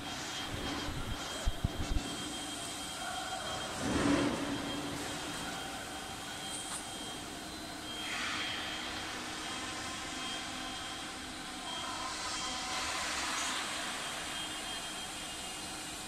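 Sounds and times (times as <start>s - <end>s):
factory machinery hiss and hum: 0.0s - 16.0s.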